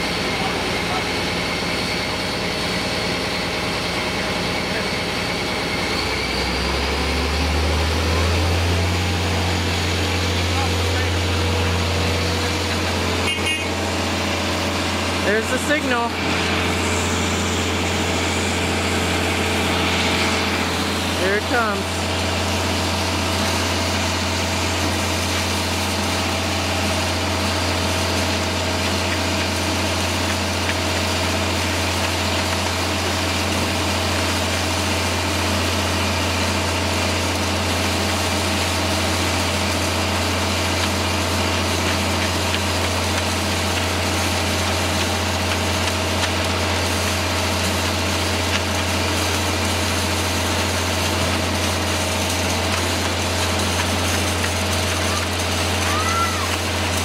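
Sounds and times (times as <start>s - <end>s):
diesel engine running: 0.0s - 57.0s
mid-pitched pump whine: 0.0s - 57.0s.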